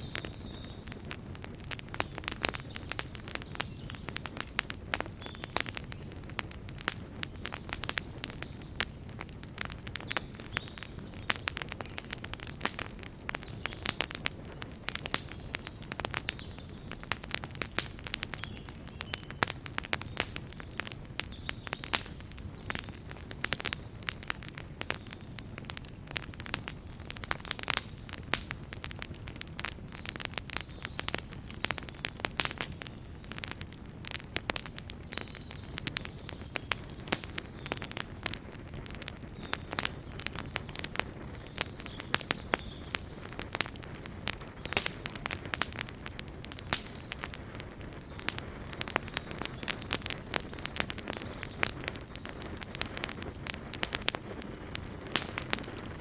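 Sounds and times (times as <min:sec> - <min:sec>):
low rumble of burning: 0:00.0 - 0:56.0
wood fire crackling and popping: 0:00.0 - 0:56.0.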